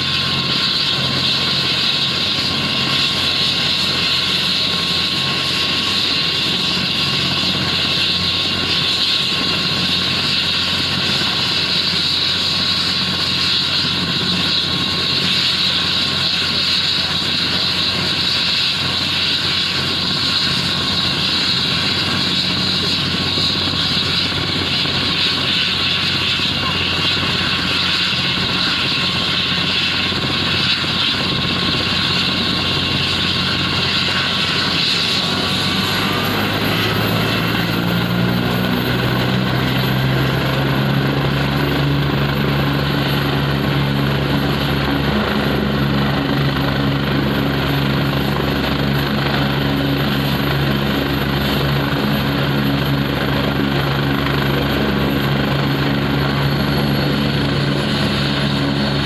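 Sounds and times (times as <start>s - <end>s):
helicopter rotor beat: 0.0s - 59.0s
helicopter turbine whine: 0.0s - 59.0s.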